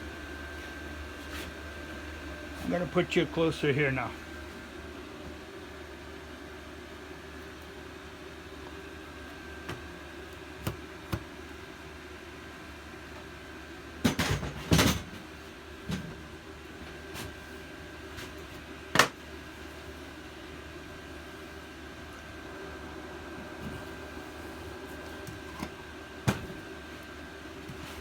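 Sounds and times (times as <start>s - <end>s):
space heater humming: 0.0s - 28.0s.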